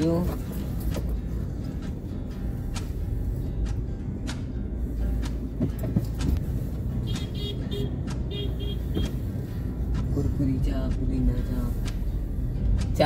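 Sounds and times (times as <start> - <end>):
car driving in traffic: 0.0 - 13.0.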